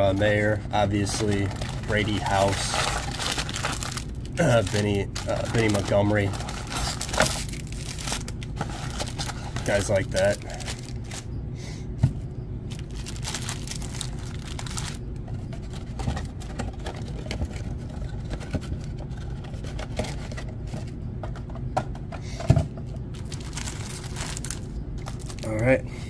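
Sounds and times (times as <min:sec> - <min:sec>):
trading card packs rustling: 0:00.0 - 0:11.3, 0:12.7 - 0:21.0, 0:22.9 - 0:25.8
low hum: 0:00.0 - 0:26.0.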